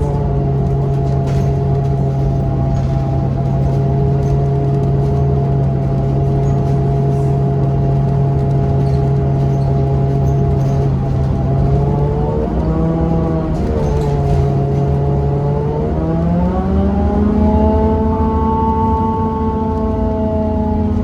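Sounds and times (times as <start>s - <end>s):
bus engine drone with whine: 0.0s - 21.0s.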